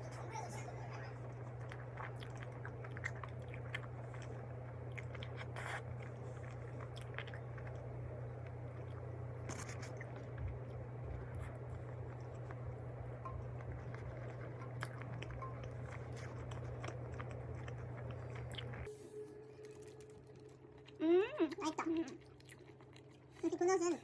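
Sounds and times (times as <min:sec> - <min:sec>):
steady low hum: 0:00.0 - 0:24.0
person chewing: 0:01.2 - 0:23.5.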